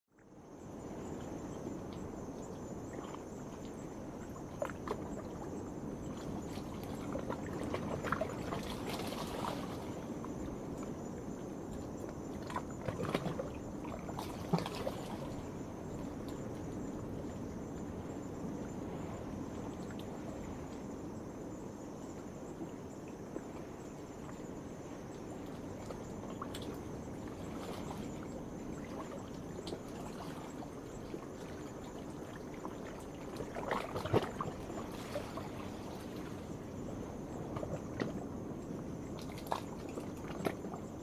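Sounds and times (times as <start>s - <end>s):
night insects chorus: 0.2s - 41.0s.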